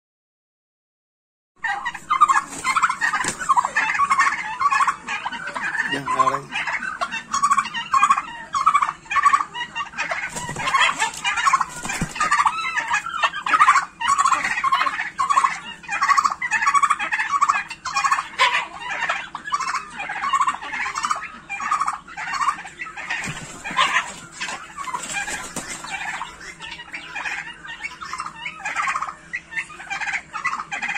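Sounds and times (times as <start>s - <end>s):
turkeys gobbling: 1.6s - 30.9s.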